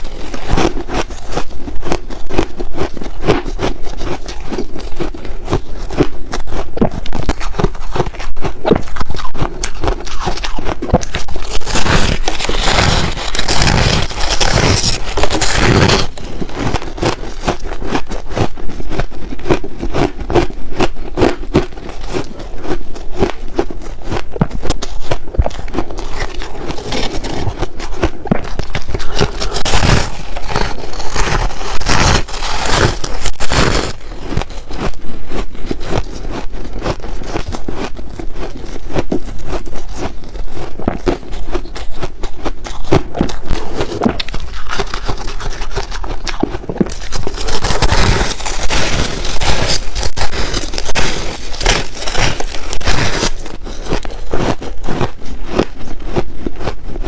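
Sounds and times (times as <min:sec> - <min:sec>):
ice cubes crunching when chewed: 0:00.0 - 0:57.0.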